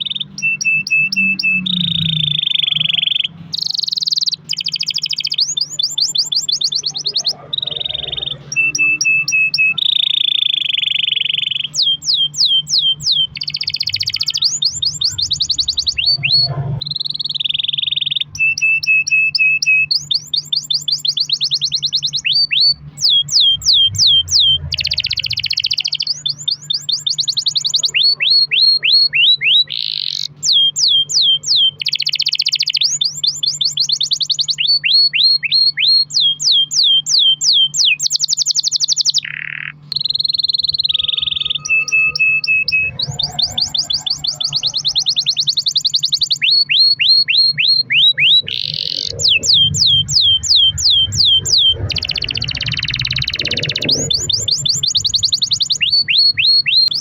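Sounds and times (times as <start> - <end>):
canary singing: 0.0 - 57.0
faint low hum: 0.0 - 57.0.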